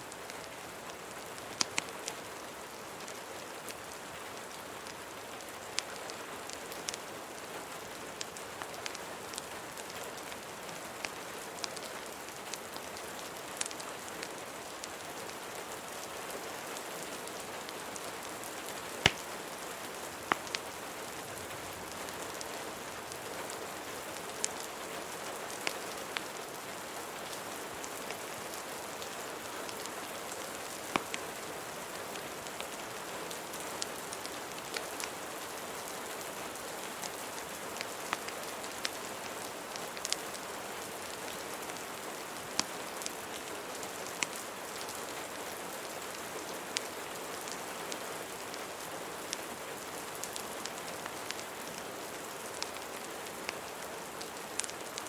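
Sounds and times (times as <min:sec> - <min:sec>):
fireplace crackle: 0:00.0 - 0:55.0
rain hiss: 0:00.0 - 0:55.0.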